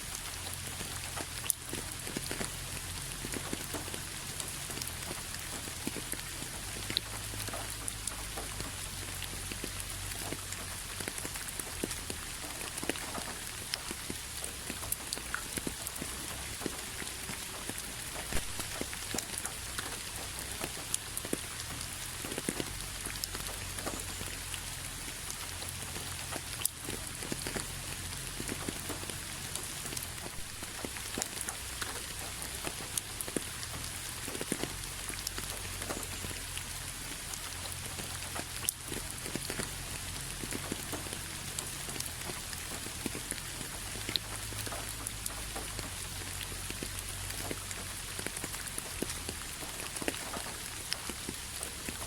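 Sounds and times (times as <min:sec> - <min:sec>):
rain hissing: 0:00.0 - 0:52.0
raindrops pattering on hard surface: 0:00.0 - 0:52.0.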